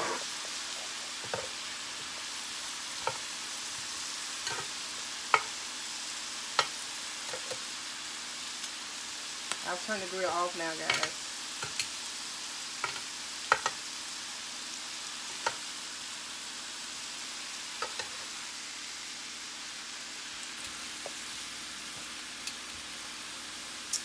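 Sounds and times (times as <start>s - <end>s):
steaks sizzling on grill: 0.0s - 24.0s.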